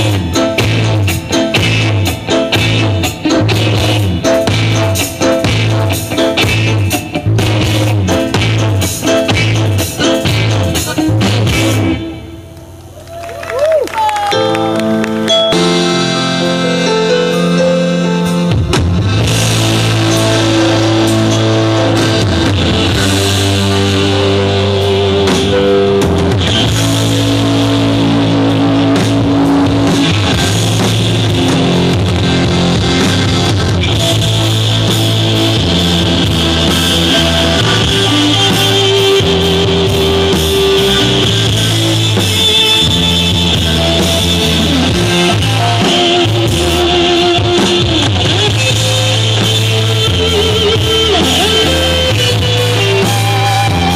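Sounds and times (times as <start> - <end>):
drum kit: 0.0 - 12.9, 13.5 - 53.9
bass guitar: 0.0 - 53.9
electric guitar: 0.0 - 53.9.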